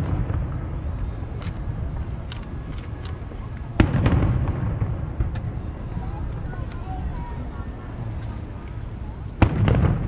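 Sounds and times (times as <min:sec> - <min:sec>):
rumbling echo: 0:00.0 - 0:08.0, 0:09.0 - 0:10.0.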